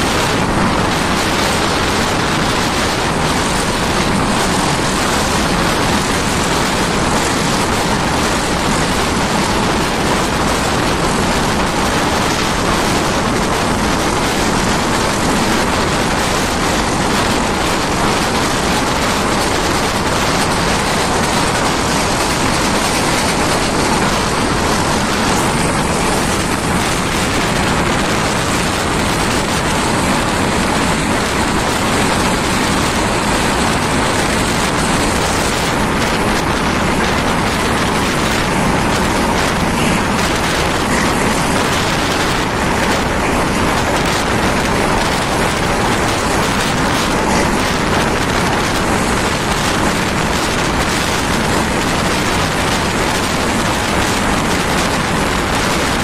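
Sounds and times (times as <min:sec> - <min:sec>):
air rushing past window: 0:00.0 - 0:56.0
train running at speed: 0:00.0 - 0:56.0.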